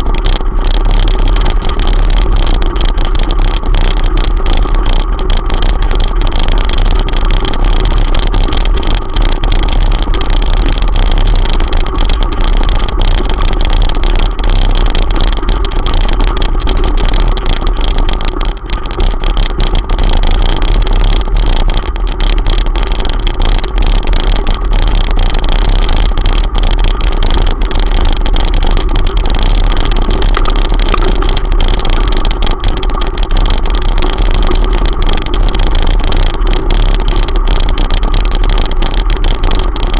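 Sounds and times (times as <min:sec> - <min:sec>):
constant low hum: 0:00.0 - 0:39.9
vibration rumble on gravel: 0:00.0 - 0:39.9.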